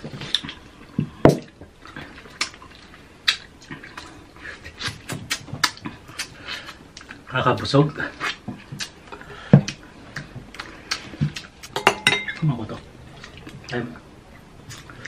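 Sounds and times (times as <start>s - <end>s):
people eating juicy fruit: 0.0s - 15.0s.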